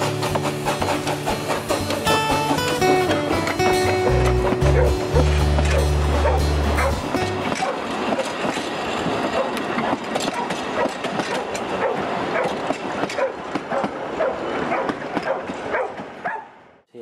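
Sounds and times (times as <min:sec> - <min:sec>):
railway carriages rolling past: 0:00.0 - 0:16.8.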